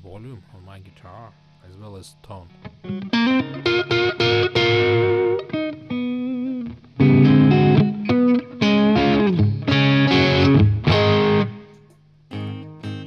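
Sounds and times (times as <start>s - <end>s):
lightly driven electric guitar: 2.4s - 13.0s.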